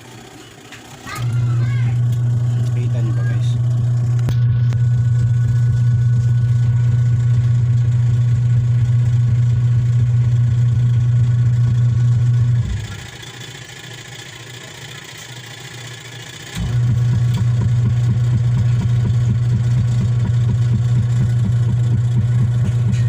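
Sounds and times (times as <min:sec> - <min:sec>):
washing machine motor humming: 0:00.0 - 0:23.0.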